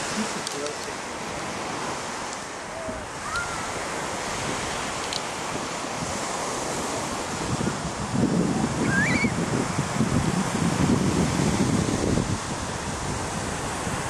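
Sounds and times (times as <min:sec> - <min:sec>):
waves washing onto sand: 0:00.0 - 0:14.0
wind buffeting microphone: 0:00.0 - 0:14.0.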